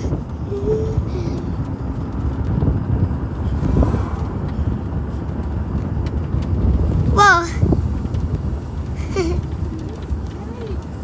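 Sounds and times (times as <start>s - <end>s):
car road and engine rumble: 0.0s - 11.0s
wind buffeting microphone: 0.0s - 11.0s.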